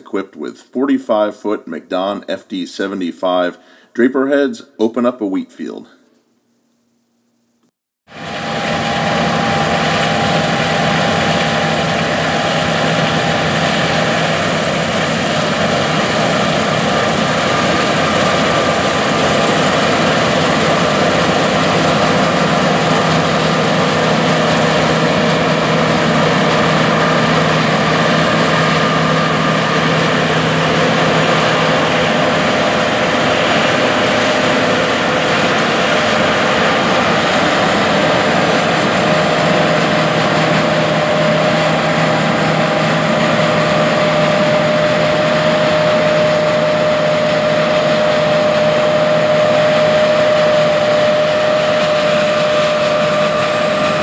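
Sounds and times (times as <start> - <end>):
engine whining tones: 8.1 - 54.0
engines humming: 8.2 - 54.0.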